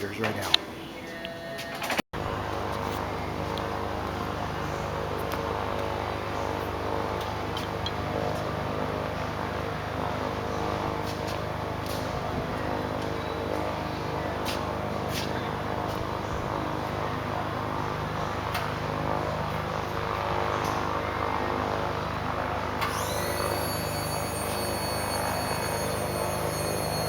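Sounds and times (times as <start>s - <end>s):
steady machine hum: 2.2s - 27.0s.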